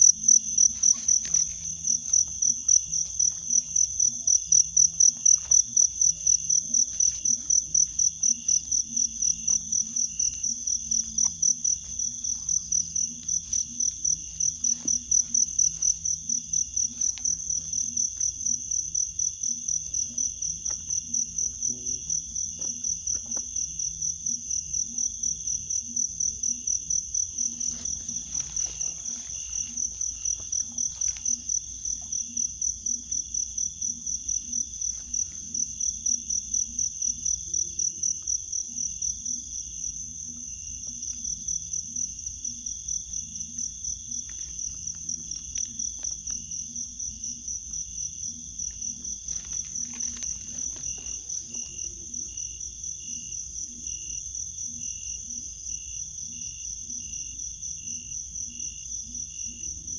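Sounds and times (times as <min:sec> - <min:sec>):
insect chirping in a pulsing trill: 0:00.0 - 0:59.9.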